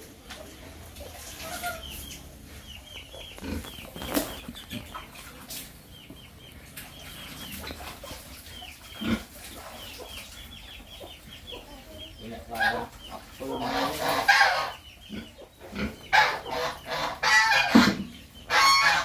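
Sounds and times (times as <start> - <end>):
chickens cheeping: 0.1 - 19.0.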